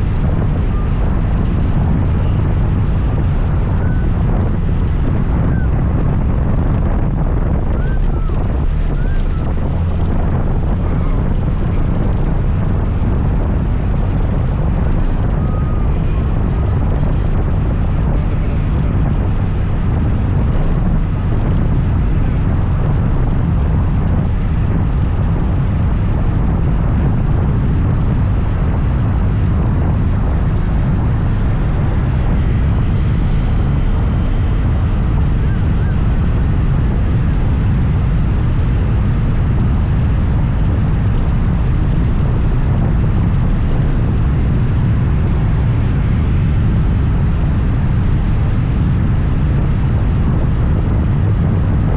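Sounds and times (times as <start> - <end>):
road noise: 0.0 - 51.9
wind rush on microphone: 0.0 - 51.9.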